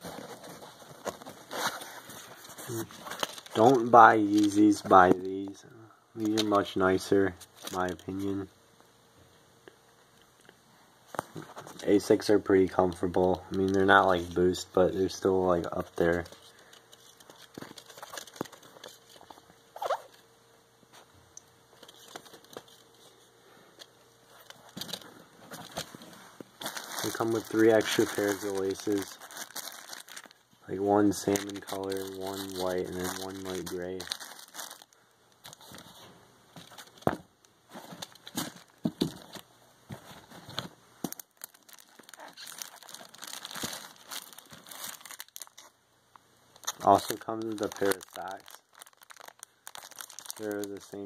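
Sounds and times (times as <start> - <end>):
plastic packaging crinkling: 0.0 - 5.3, 6.2 - 8.3, 11.5 - 20.2, 21.7 - 23.1, 24.3 - 45.8, 46.6 - 51.0.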